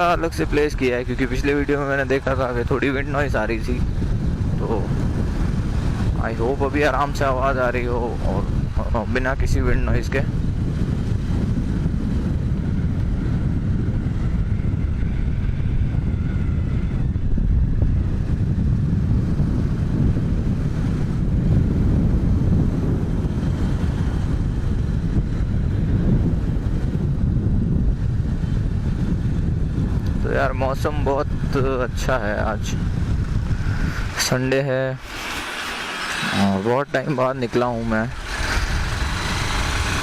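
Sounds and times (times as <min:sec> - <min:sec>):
motorcycle engine running: 0:00.0 - 0:40.0
wind rumble on microphone: 0:00.0 - 0:40.0.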